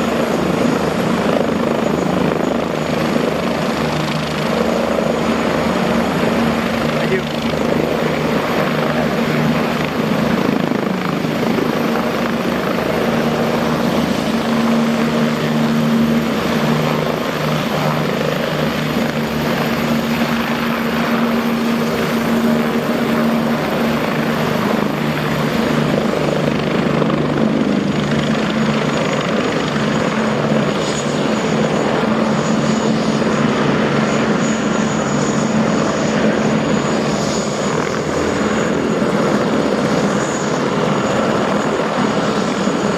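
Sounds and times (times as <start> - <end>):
helicopter engine whine: 0.0 - 42.9
helicopter rotor thrum: 0.0 - 42.9.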